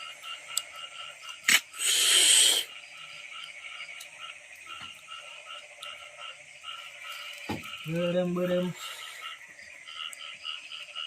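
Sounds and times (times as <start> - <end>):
frog chorus: 0.0 - 11.0.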